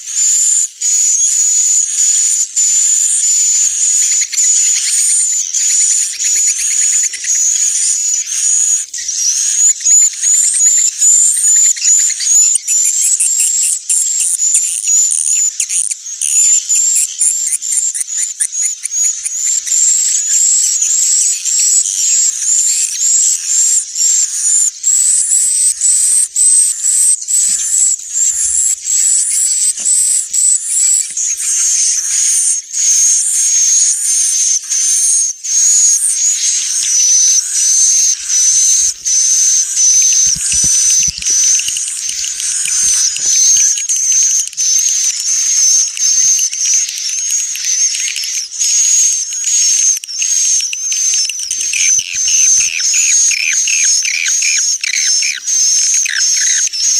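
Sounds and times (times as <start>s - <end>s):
swiftlets chirping and twittering: 0.0s - 56.9s.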